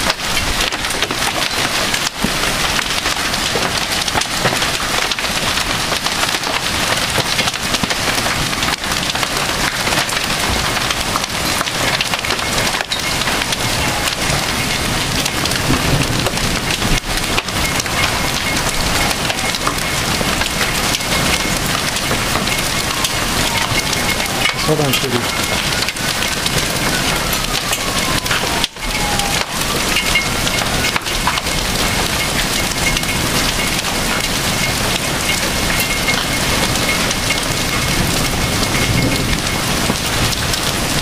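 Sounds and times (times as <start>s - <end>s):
hail clattering: 0.0s - 41.0s
heavy rain rushing: 0.0s - 41.0s.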